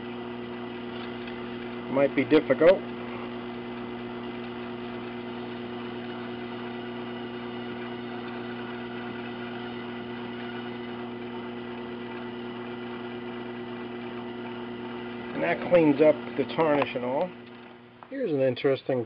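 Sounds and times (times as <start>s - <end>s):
small lathe motor humming: 0.0s - 18.1s.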